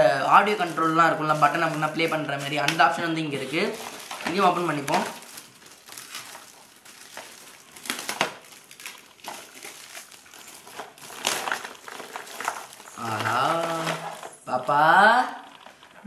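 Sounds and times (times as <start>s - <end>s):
packaging crinkling: 0.0s - 16.0s.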